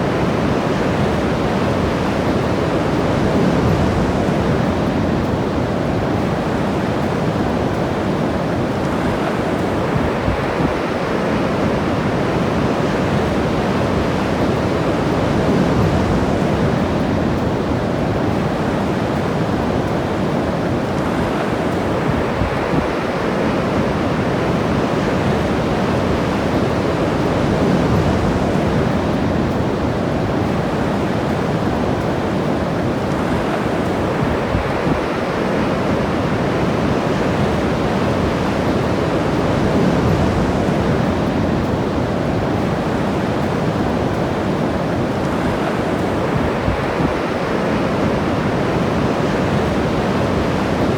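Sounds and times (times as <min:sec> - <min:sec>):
ocean surf washing onto beach: 0:00.0 - 0:50.9.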